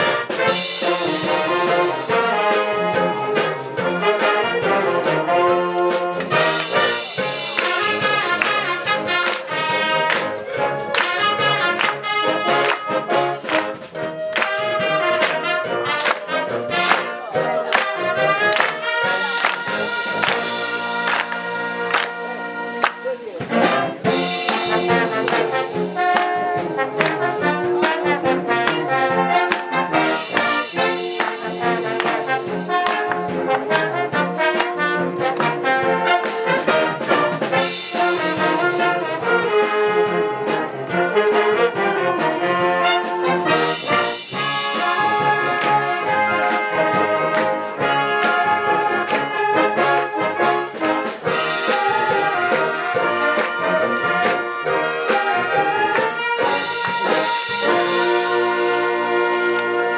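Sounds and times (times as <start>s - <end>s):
percussion hits: 0.0s - 59.9s
wind band with trombones and trumpets: 0.0s - 59.9s.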